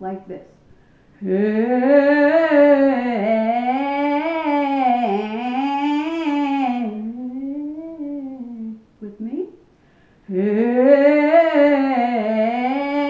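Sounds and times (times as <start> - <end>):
woman singing scales: 1.2 - 9.4, 10.3 - 13.0.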